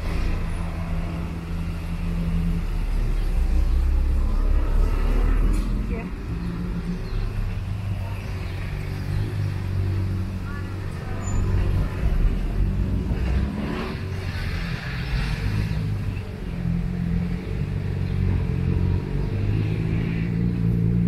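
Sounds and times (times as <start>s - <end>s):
street noise: 0.0s - 21.0s
vehicle engine humming: 0.0s - 21.0s.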